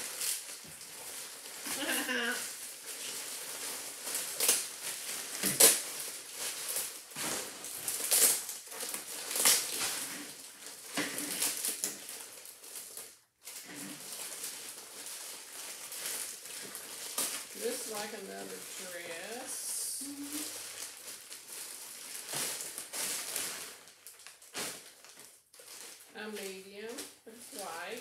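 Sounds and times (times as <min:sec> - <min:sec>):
plastic bags crinkling: 0:00.0 - 0:28.0.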